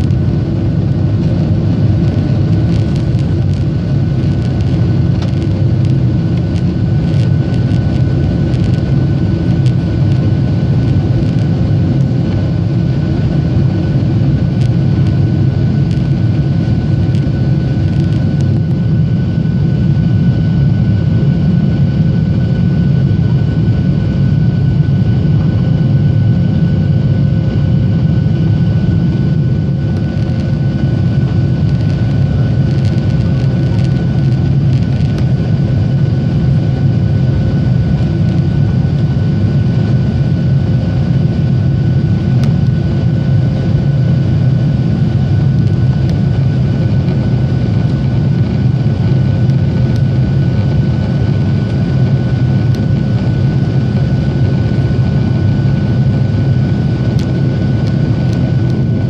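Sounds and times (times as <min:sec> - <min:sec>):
jet engine and airflow roar: 0:00.0 - 0:59.0
thin steady whine: 0:00.0 - 0:59.0.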